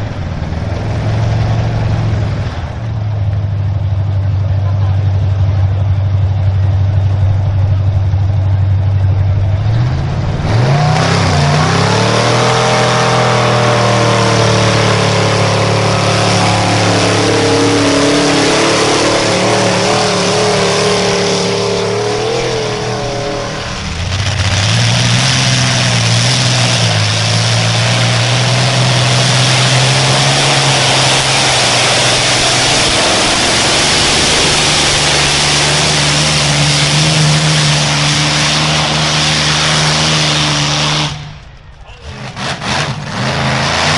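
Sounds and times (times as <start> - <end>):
vehicle engine revving under load: 4.6 - 43.9
loud rushing noise: 6.5 - 43.9.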